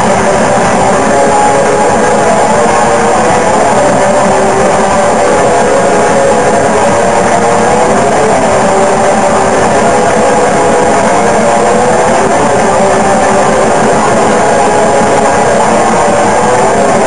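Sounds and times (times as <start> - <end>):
distorted electric guitars: 0.0 - 17.0
drums: 0.0 - 17.0.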